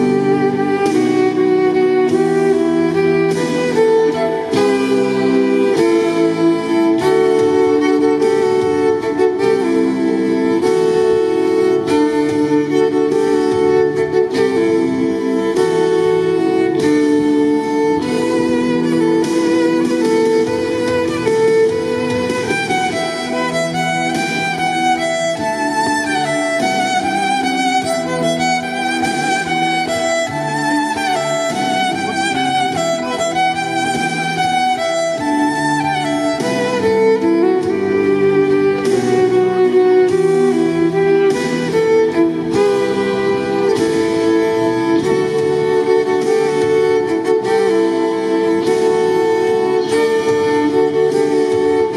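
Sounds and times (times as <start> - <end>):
backing music from loudspeaker: 0.0 - 51.9
violin melody with vibrato: 0.0 - 51.9.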